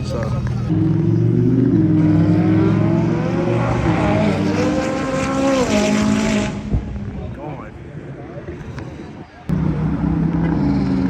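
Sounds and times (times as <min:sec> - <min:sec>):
car engine accelerating: 0:00.0 - 0:07.2, 0:08.4 - 0:11.0.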